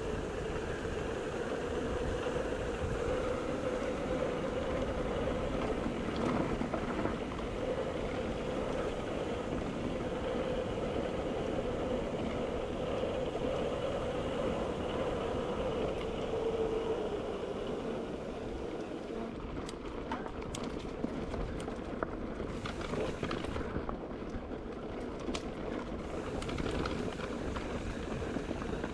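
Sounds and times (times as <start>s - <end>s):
tyre and wind rush: 0.0s - 24.6s, 25.6s - 28.9s.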